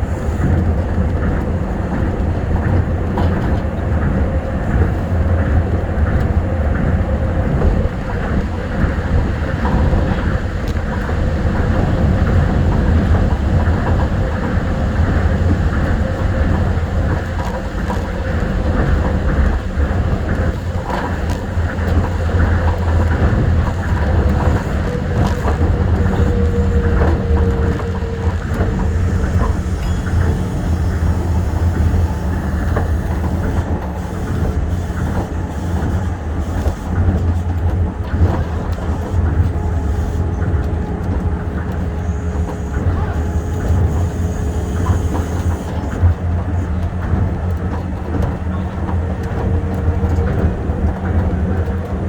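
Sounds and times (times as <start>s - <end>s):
monorail train rumbling: 0.0s - 52.0s.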